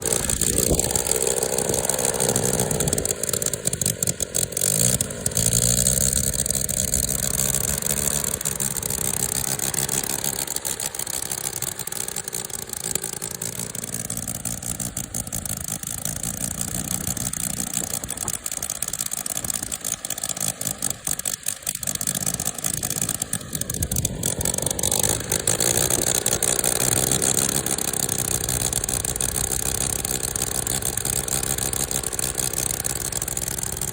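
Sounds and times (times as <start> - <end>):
model rotary engine running: 0.0 - 33.9.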